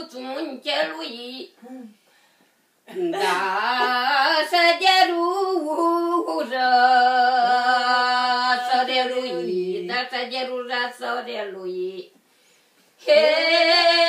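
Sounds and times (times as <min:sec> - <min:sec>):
elderly woman singing: 0:00.0 - 0:01.9, 0:02.9 - 0:12.2, 0:13.0 - 0:14.0.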